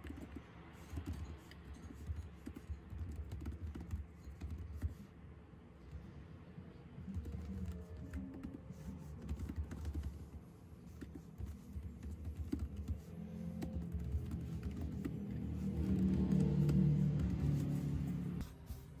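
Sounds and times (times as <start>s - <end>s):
fast typing on a keyboard: 0.0s - 5.1s, 7.0s - 18.1s.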